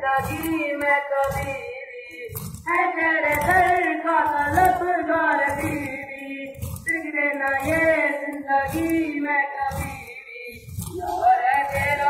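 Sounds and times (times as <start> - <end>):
low rhythmic thump: 0.0 - 12.0
voices chanting a lament: 0.0 - 12.0.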